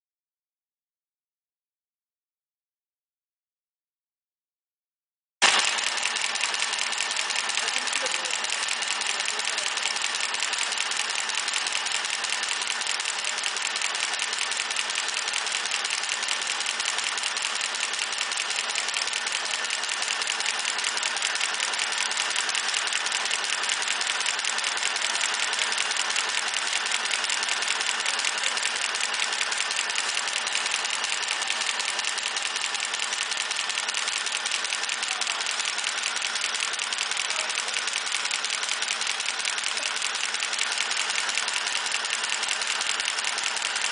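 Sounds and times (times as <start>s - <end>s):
brush-making machine clattering: 5.4s - 43.9s.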